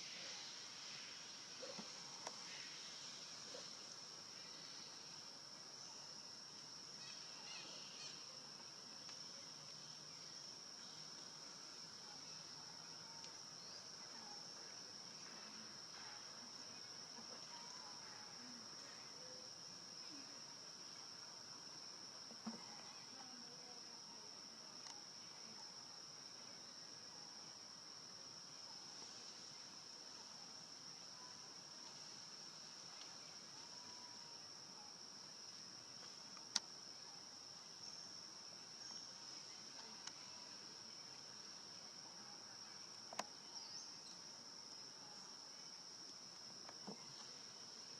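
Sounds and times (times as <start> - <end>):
insects droning: 0.0 - 47.9.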